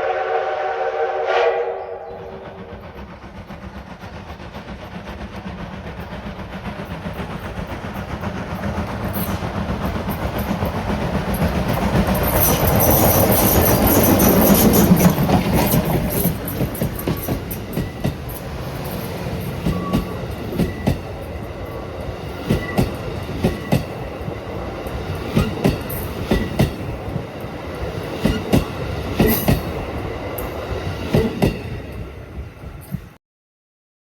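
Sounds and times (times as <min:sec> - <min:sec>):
train wheels clacking on rail joints: 0:02.4 - 0:33.2.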